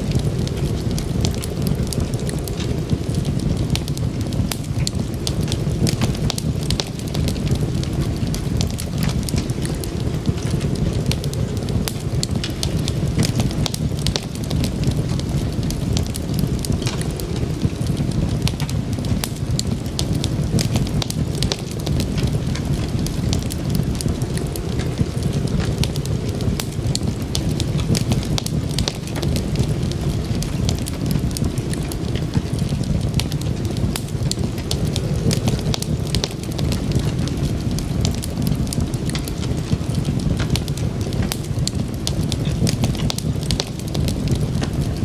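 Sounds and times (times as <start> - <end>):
wood fire crackling: 0.0 - 45.0.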